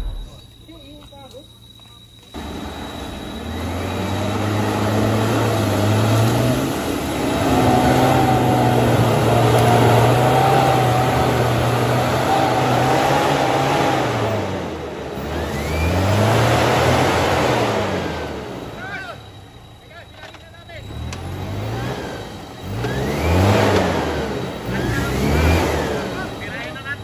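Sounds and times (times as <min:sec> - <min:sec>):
off-road engine revving: 0:00.0 - 0:00.6, 0:02.3 - 0:27.0.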